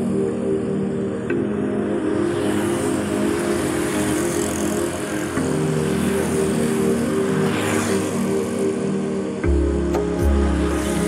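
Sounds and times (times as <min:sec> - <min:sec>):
car engines passing: 0:02.1 - 0:11.0
motorbike engines passing: 0:02.1 - 0:11.0.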